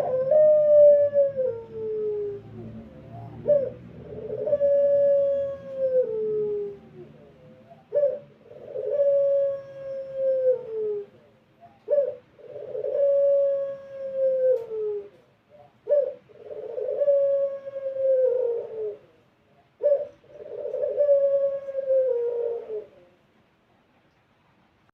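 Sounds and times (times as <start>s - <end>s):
dove cooing: 0.0s - 23.3s.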